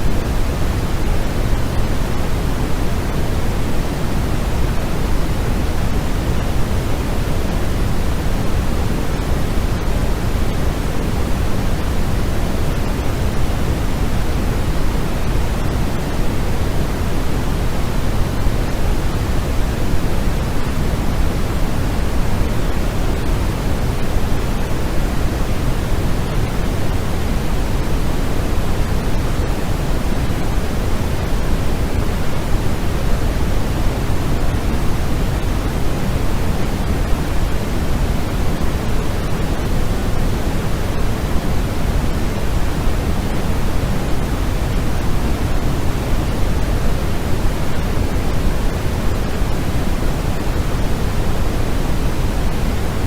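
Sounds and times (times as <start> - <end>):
steady low-weighted noise: 0.0 - 53.0.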